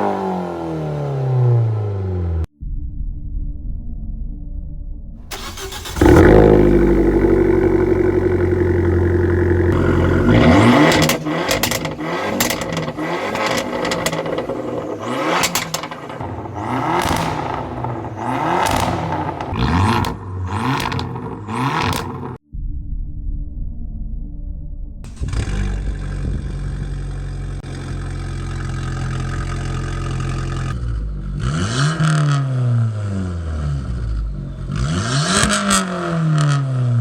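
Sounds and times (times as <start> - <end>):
car engine starting and revving: 0.0 - 2.5, 5.3 - 22.4, 25.1 - 37.0.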